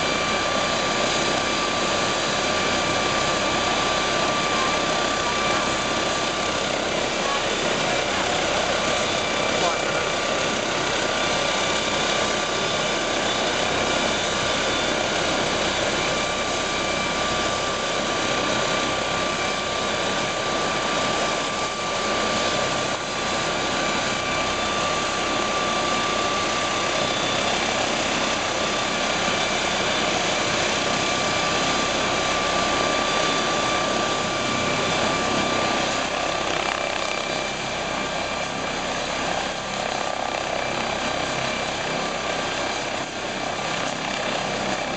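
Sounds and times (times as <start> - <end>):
helicopter turbine engines whining: 0.0 - 44.9.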